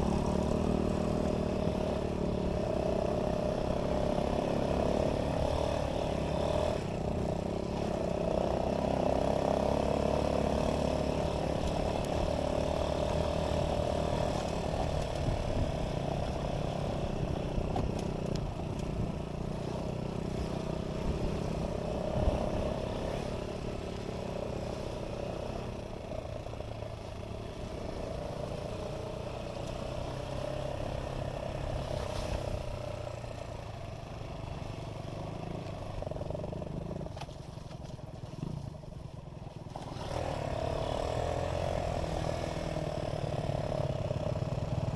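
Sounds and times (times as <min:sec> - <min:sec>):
vehicle engine droning: 0:00.0 - 0:44.9
wind or road noise: 0:00.0 - 0:44.9.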